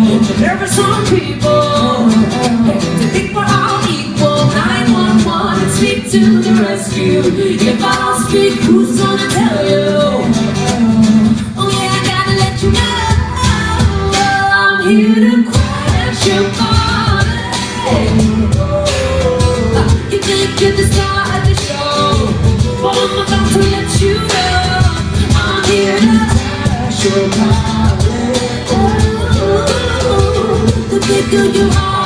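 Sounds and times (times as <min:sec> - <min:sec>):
steady drum beat: 0:00.0 - 0:14.4, 0:15.5 - 0:32.0
live pop band playing: 0:00.0 - 0:32.0
person singing: 0:00.0 - 0:32.0.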